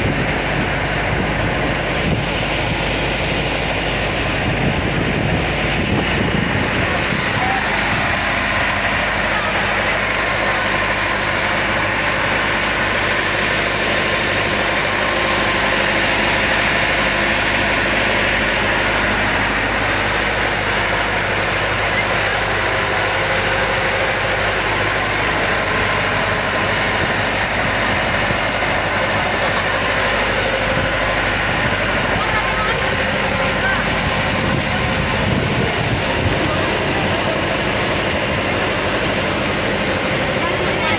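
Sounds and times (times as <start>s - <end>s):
boat engine drone: 0.0s - 40.9s.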